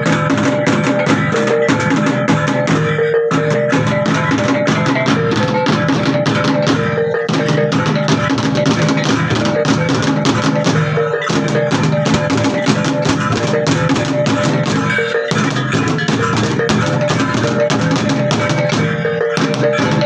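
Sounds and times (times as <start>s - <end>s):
fast drum strokes: 0.0s - 20.0s
steady ringing tones: 0.0s - 20.0s.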